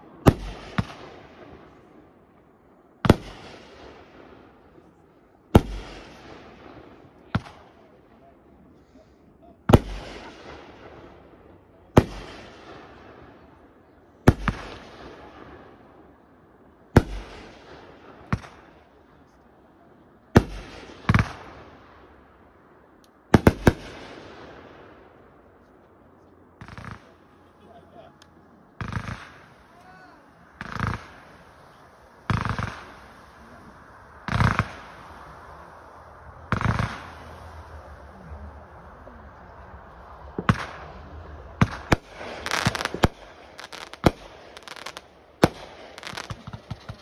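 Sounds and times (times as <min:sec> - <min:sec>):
fireworks bursting with bangs: 0:00.0 - 0:02.1, 0:02.9 - 0:08.2, 0:09.6 - 0:19.1, 0:20.2 - 0:22.3, 0:23.2 - 0:25.6, 0:26.6 - 0:27.8, 0:28.8 - 0:47.0.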